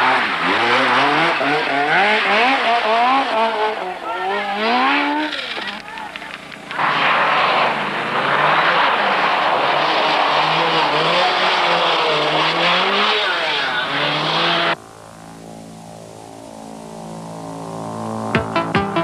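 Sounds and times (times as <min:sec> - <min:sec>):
rally car engine at full throttle: 0:00.0 - 0:19.0
road and tyre noise: 0:00.0 - 0:19.0.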